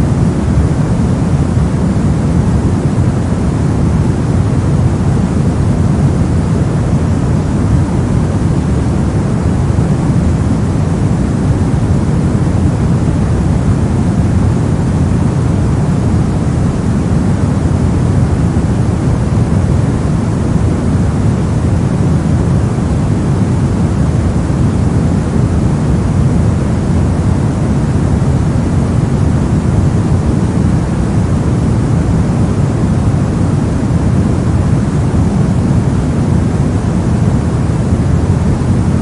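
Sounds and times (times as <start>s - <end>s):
brown noise: 0.0s - 39.0s.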